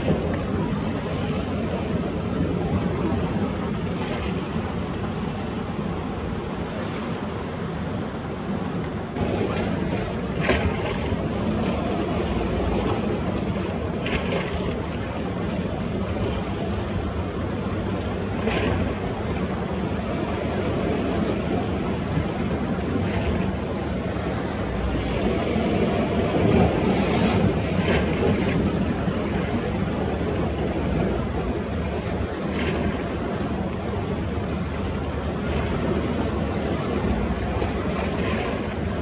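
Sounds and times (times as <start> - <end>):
sea surf washing: 0.0 - 39.0
wind on microphone: 0.0 - 39.0.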